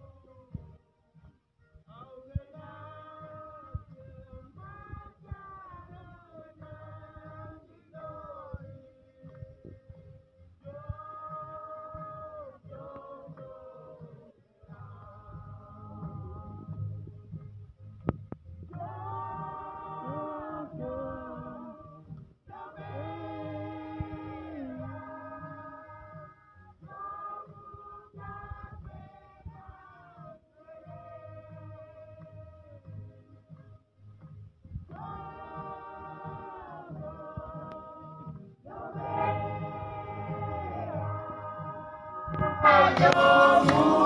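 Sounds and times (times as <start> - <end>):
voices singing unaccompanied: 2.2 - 16.9, 18.7 - 32.9, 34.9 - 44.0.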